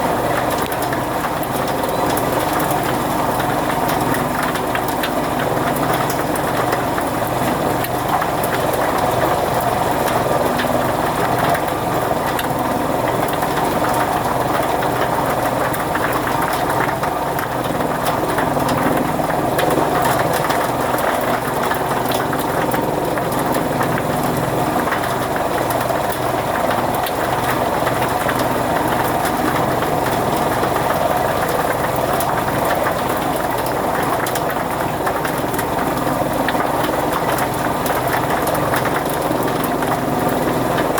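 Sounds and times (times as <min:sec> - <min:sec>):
fodder cutting machine running: 0:00.0 - 0:40.9.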